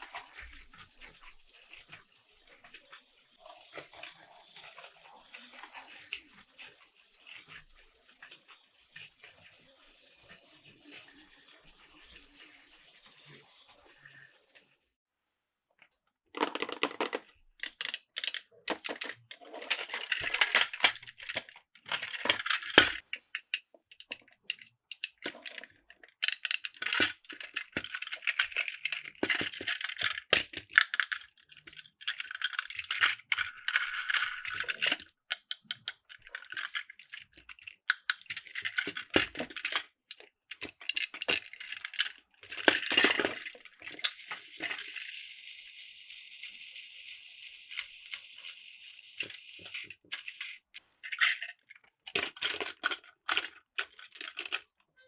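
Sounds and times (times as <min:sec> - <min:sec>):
plastic toy trains clattering: 0:00.0 - 0:13.3, 0:16.4 - 0:54.8.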